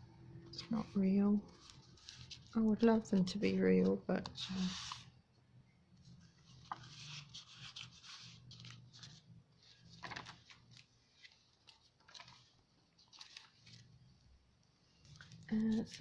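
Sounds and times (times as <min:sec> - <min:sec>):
paper pages rustling: 0:00.6 - 0:05.1, 0:06.0 - 0:14.2, 0:15.0 - 0:16.0.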